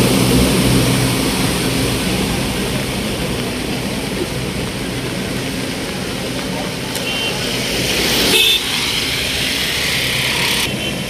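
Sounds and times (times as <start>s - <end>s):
floodwater rushing: 0.0s - 11.0s
truck engine running low: 0.0s - 11.0s.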